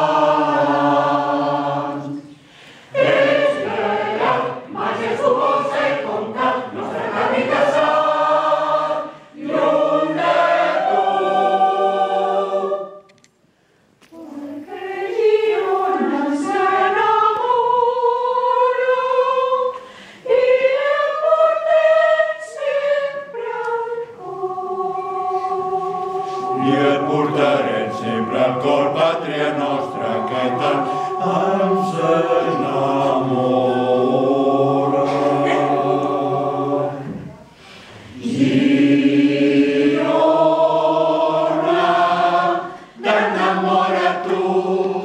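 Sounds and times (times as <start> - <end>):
mixed choir singing in harmony: 0.0 - 13.2, 14.1 - 45.0.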